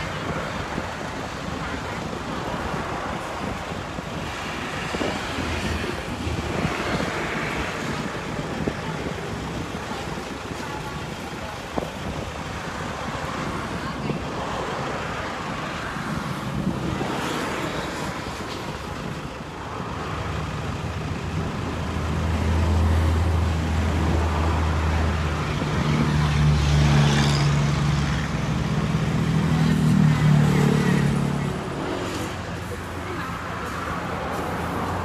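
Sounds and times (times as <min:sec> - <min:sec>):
road traffic passing: 0:00.0 - 0:35.0
vehicle engine humming: 0:00.0 - 0:35.0.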